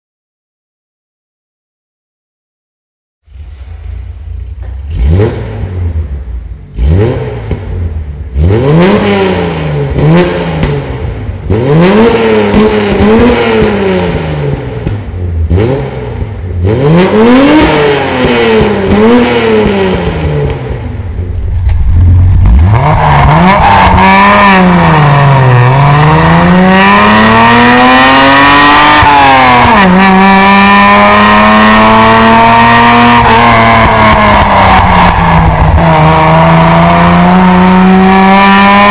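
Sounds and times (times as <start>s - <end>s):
car accelerating with upshifts: 3.3s - 38.9s
car engine revving: 3.3s - 38.9s.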